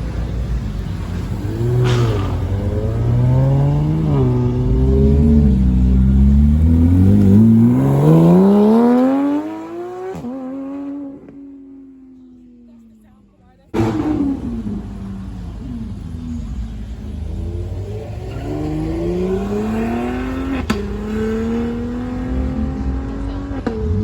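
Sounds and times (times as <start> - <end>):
car engine revving: 0.0 - 12.3, 13.7 - 24.0.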